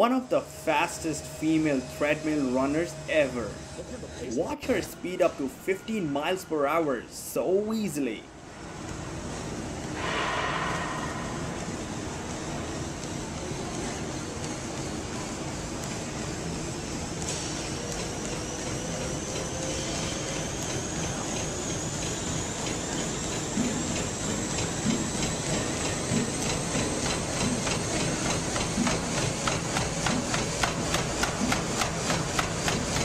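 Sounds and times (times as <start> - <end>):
treadmill motor whining: 0.0 - 33.0
feet pounding treadmill belt: 0.1 - 6.8, 8.6 - 33.0.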